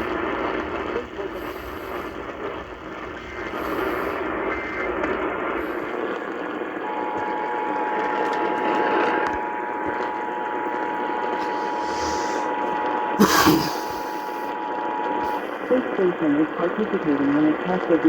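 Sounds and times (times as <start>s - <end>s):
burst of noise: 0.0s - 15.7s
radio reception hiss: 0.0s - 18.0s.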